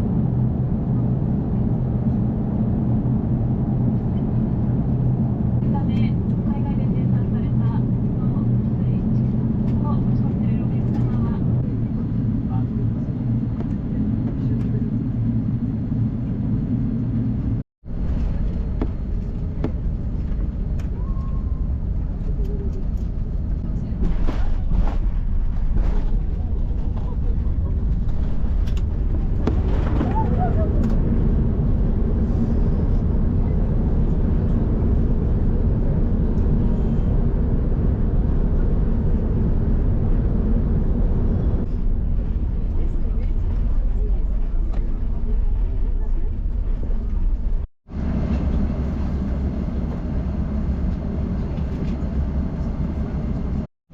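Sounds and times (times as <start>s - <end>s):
airliner cabin rumble: 0.0s - 53.9s.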